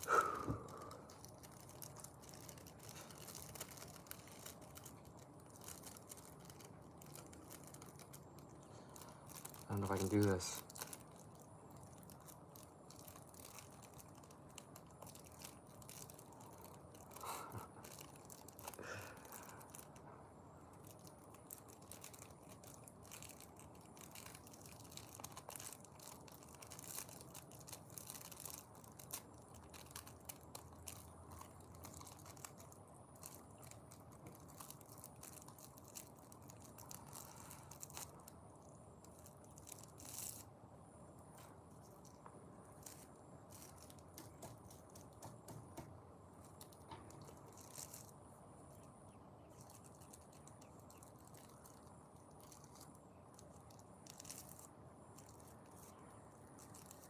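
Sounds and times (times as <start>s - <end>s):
rolling paper crinkling: 0.0s - 57.0s.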